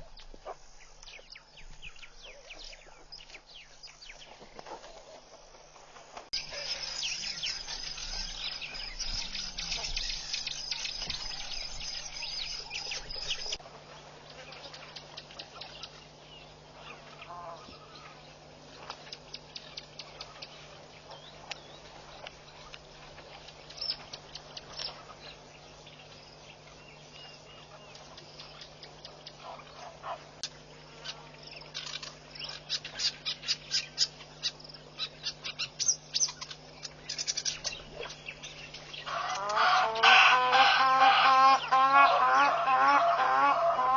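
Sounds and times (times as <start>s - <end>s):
birds chirping and chattering: 0.0s - 5.4s, 6.3s - 43.9s
faint steady hum: 0.0s - 43.9s
lower bird calls: 6.4s - 13.6s, 14.3s - 43.9s.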